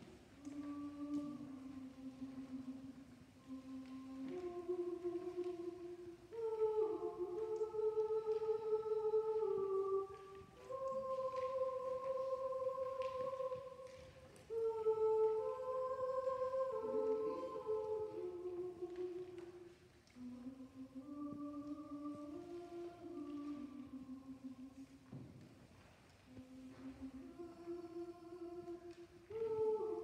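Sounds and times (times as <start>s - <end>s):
mixed choir singing chords: 0.0s - 19.5s, 20.2s - 24.9s, 26.4s - 30.0s.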